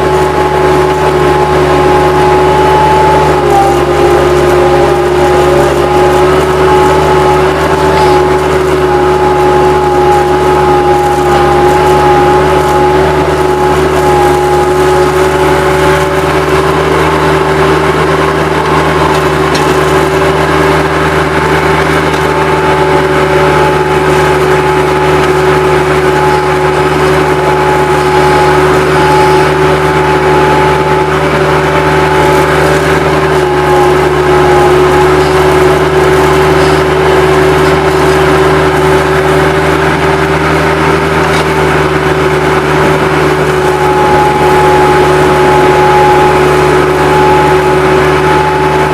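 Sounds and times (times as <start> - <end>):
diesel engine running: 0.0 - 48.9
steady whine: 0.0 - 48.9.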